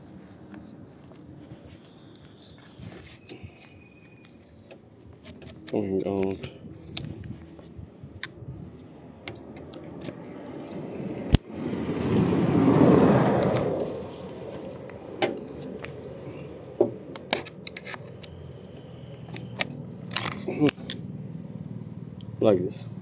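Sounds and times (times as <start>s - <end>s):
parts scraping and rustling: 0.0s - 22.0s.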